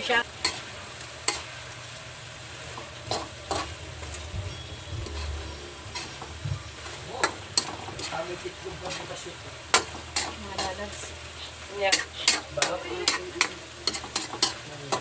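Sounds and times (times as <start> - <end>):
shrimp sizzling in a wok: 0.0 - 15.0
metal spatula scraping a wok: 0.4 - 1.7, 2.6 - 15.0.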